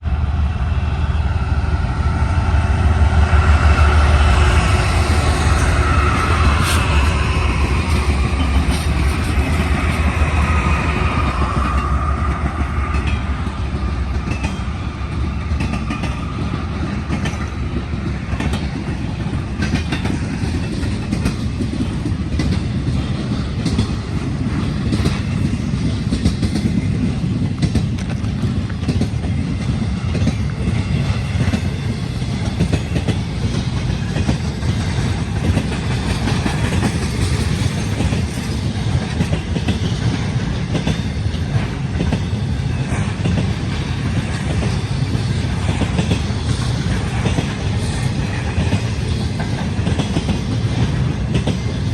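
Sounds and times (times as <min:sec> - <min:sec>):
locomotive rumble and whine: 0:00.0 - 0:51.9
train wheels clattering over rail joints: 0:03.2 - 0:51.9.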